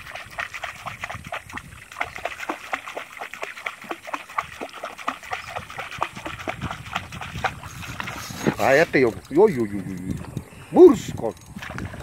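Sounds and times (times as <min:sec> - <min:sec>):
fish splashing at water surface: 0:00.0 - 0:09.6.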